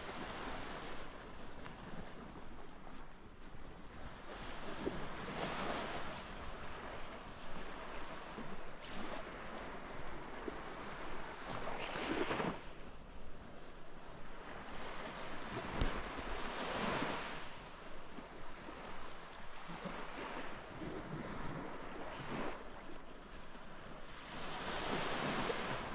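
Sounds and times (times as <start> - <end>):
small waves breaking on shore: 0.0 - 25.9
wind rumbling on microphone: 0.0 - 25.9.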